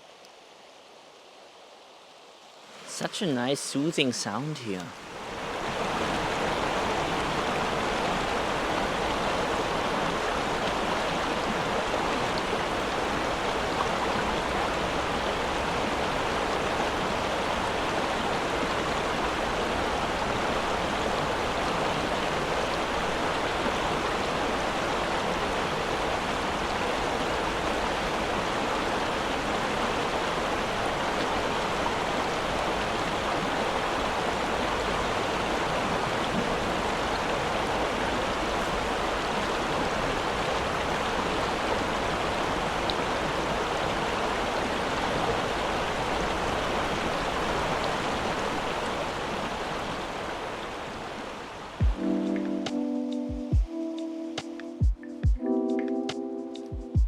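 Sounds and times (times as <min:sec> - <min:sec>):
stream water flowing: 0:00.0 - 0:52.6.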